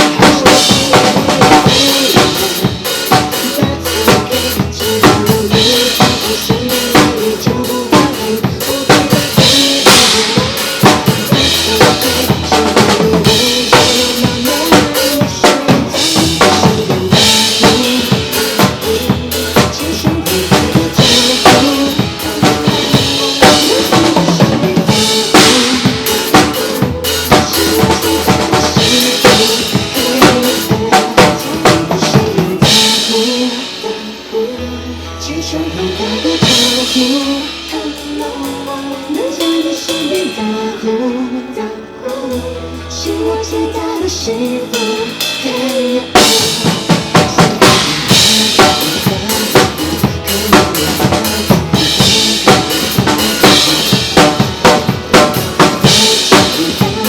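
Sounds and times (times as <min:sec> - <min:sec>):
drum kit pop groove: 0:00.0 - 0:57.0
recorded backing track: 0:00.0 - 0:57.0.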